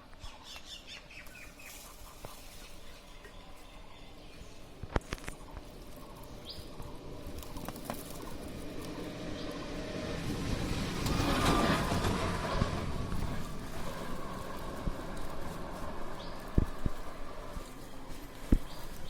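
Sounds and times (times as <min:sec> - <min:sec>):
small birds chirping: 0:00.0 - 0:09.8, 0:12.4 - 0:19.0.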